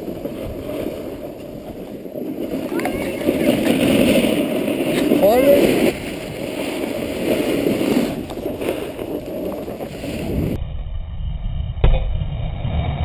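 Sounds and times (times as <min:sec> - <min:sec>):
snowboard scraping over snow: 0:00.0 - 0:10.6
low wind rumble: 0:00.0 - 0:13.0
wind buffeting microphone: 0:00.0 - 0:13.0.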